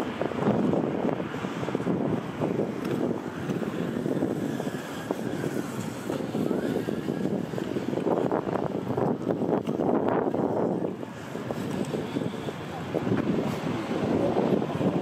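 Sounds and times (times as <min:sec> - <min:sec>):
passing traffic rumble: 0:00.0 - 0:15.0.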